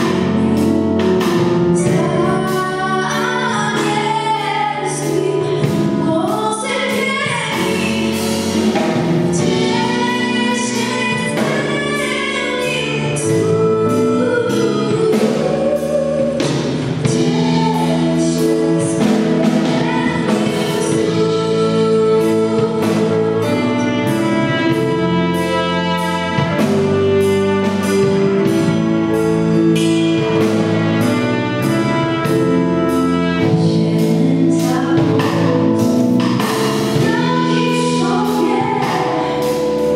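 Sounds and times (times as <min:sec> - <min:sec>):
band playing carol with singing: 0:00.0 - 0:39.9.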